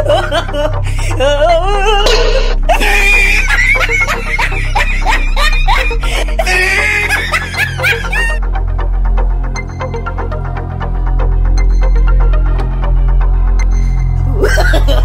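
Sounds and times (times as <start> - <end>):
background music with low bass: 0.0 - 15.0.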